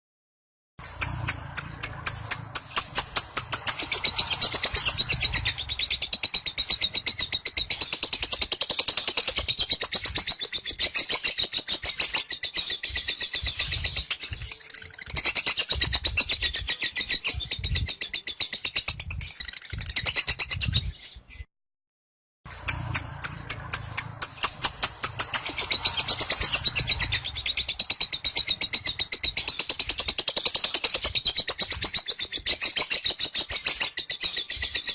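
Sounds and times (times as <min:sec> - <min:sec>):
lovebird chattering: 0:00.8 - 0:20.7, 0:22.5 - 0:34.9.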